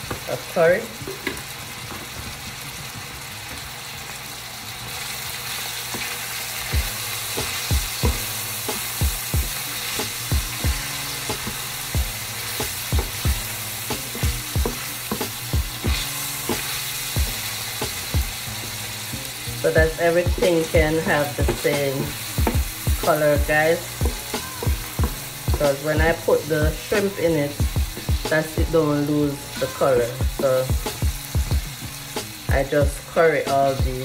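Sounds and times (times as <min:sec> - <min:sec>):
vegetables sizzling in a frying pan: 0:00.0 - 0:34.0.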